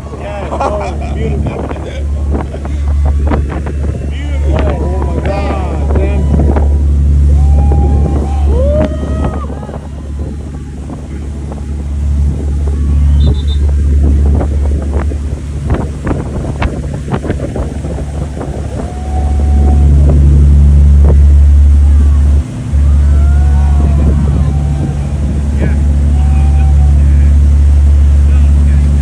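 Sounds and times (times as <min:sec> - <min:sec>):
motorboat engine running: 0:00.0 - 0:29.0
water splashing: 0:00.0 - 0:29.0
wind buffeting microphone: 0:00.0 - 0:29.0.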